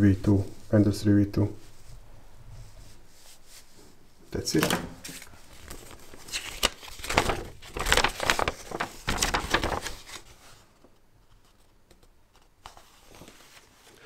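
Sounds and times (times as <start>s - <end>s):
paper rustling: 1.5s - 14.0s.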